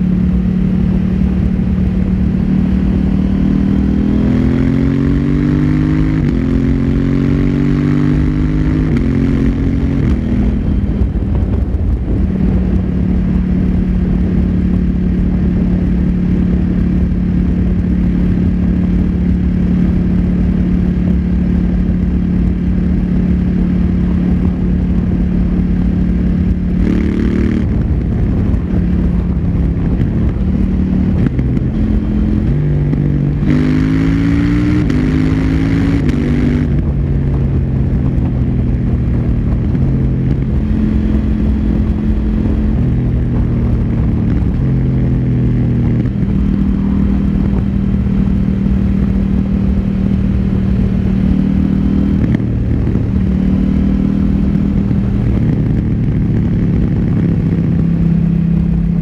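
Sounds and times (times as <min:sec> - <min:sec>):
motorcycle engine cruising: 0:00.0 - 0:59.0
wind and road rush: 0:00.0 - 0:59.0.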